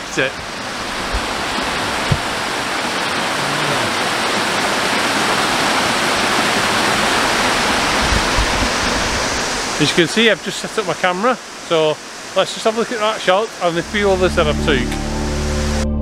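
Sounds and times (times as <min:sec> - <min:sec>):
waterfall rushing: 0:00.0 - 0:15.4.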